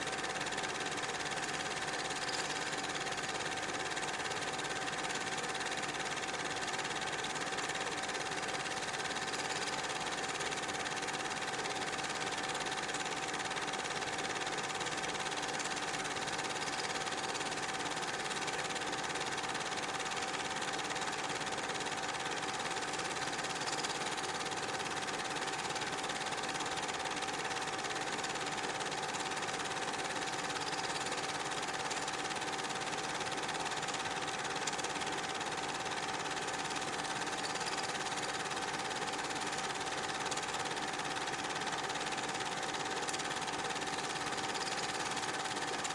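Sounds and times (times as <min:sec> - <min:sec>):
film projector whir and clatter: 0:00.0 - 0:45.9.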